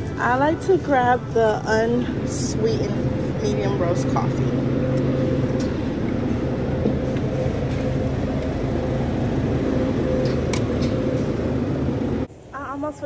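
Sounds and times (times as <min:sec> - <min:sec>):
cooler compressor humming: 0:00.0 - 0:12.3.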